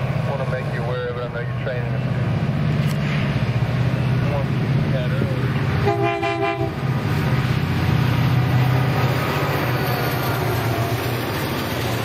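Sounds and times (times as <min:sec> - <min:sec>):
locomotive engine drone: 0:00.0 - 0:12.0
train rumbling on rails: 0:00.0 - 0:12.0.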